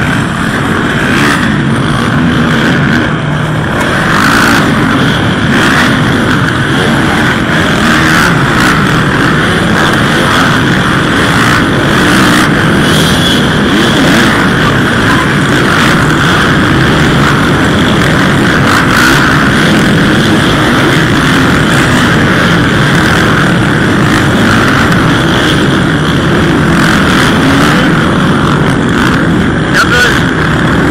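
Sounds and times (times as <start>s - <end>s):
two-stroke dirt bikes revving: 0.0s - 30.9s.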